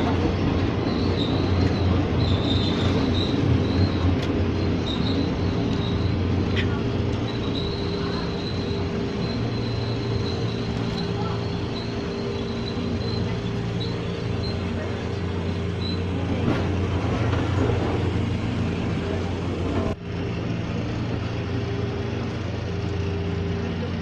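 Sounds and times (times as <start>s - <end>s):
electric train running on rails: 0.0s - 24.0s.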